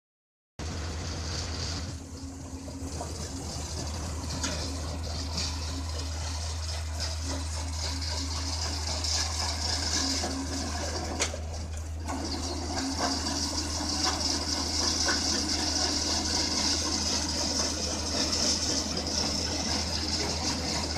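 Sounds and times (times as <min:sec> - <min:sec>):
excavator engine humming: 0:00.6 - 0:20.9.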